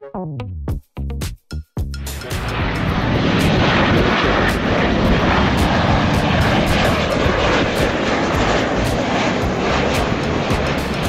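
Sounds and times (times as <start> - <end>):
jet engines rushing: 2.0 - 11.0.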